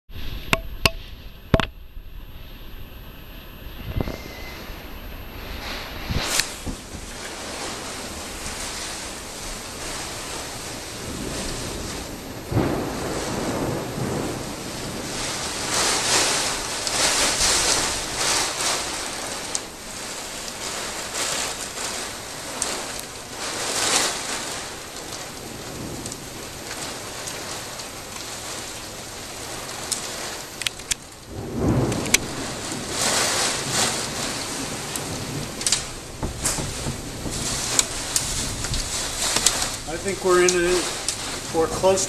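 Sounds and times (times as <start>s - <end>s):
strong wind gusts: 2.0s - 42.0s
heavy rain: 3.6s - 42.0s.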